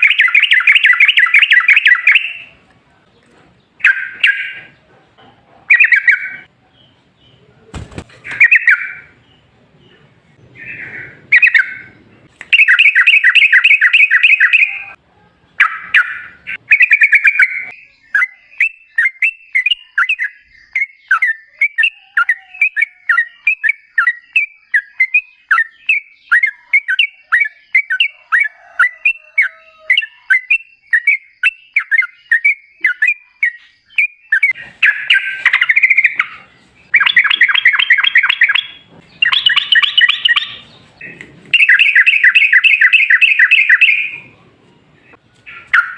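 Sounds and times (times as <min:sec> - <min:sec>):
bird chattering song: 0:00.0 - 0:02.6, 0:03.2 - 0:44.4, 0:45.0 - 0:45.9.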